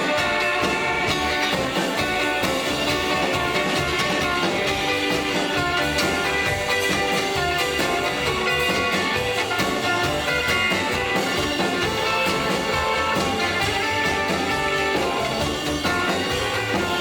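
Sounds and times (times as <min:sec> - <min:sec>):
bass guitar: 0:00.0 - 0:17.0
drums: 0:00.0 - 0:17.0.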